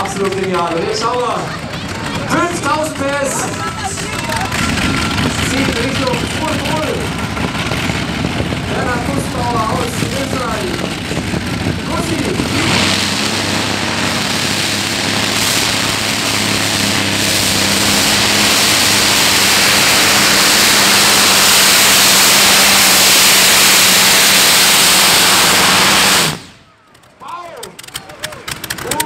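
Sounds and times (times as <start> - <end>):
loud aircraft engines droning: 0.0 - 28.8.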